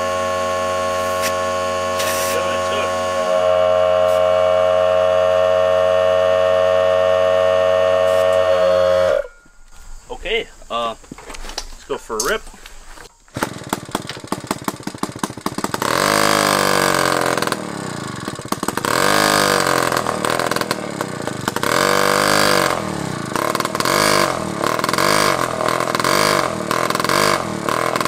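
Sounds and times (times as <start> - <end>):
moped engine revving: 0.0 - 9.4, 13.3 - 28.0.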